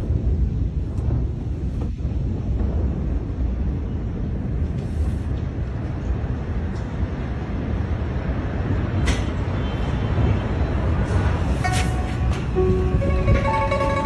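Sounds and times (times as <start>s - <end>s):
low rumbling noise: 0.0s - 9.5s, 10.6s - 14.0s.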